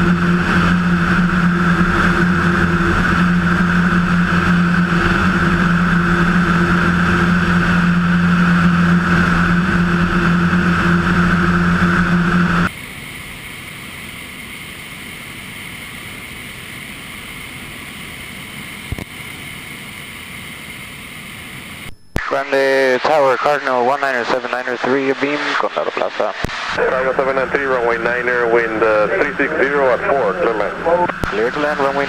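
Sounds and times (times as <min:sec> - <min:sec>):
airplane engine droning: 0:00.0 - 0:32.0.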